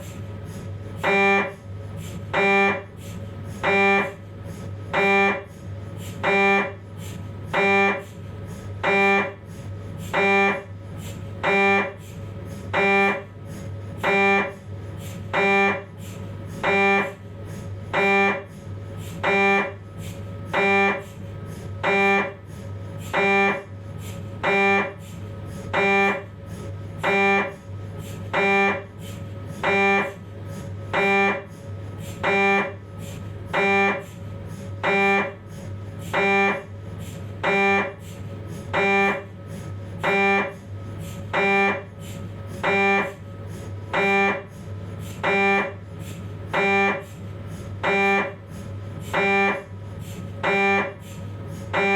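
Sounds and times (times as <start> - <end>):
mri scanner pitched buzz: 0.0 - 51.9
steady low hum: 0.0 - 51.9.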